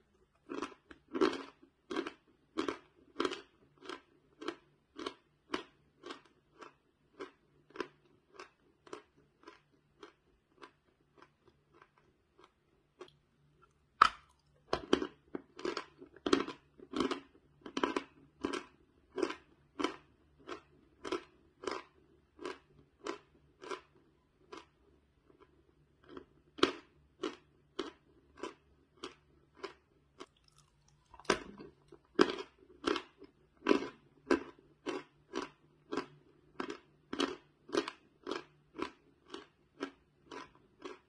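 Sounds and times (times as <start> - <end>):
crunchy chewing: 0.0 - 41.0.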